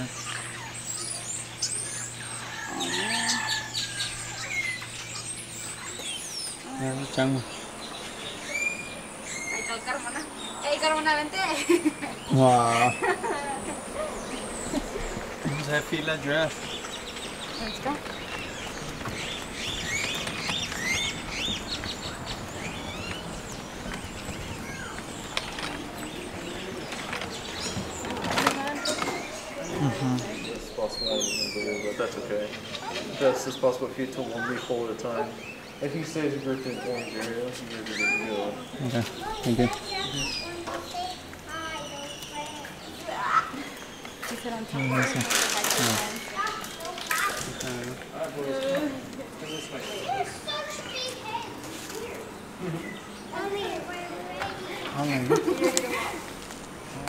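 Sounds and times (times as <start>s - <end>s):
birds chirping and whistling: 0.0s - 48.0s
outdoor background noise: 0.0s - 57.0s.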